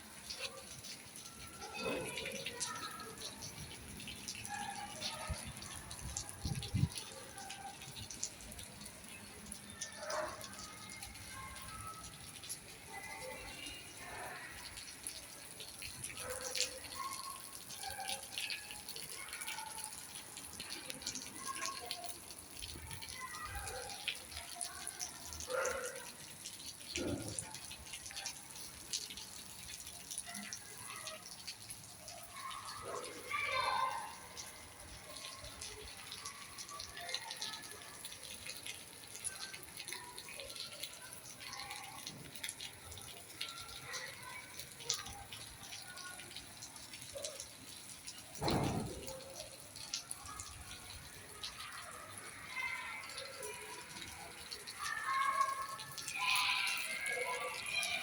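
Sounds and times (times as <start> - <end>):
rain falling: 0.0 - 58.0
water drips and splashes: 0.0 - 58.0.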